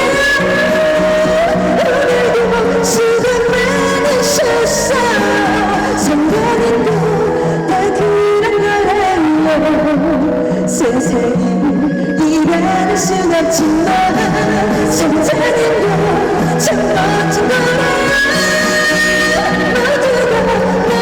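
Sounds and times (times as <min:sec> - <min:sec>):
trot song over loudspeakers: 0:00.0 - 0:21.0.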